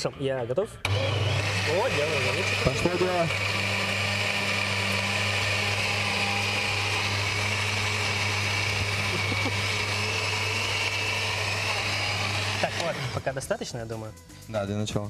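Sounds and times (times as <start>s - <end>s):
blender running: 0.8s - 13.4s.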